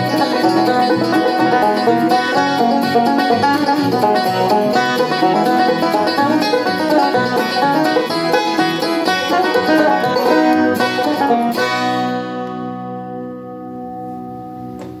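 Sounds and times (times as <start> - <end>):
banjo picking: 0.0 - 14.4.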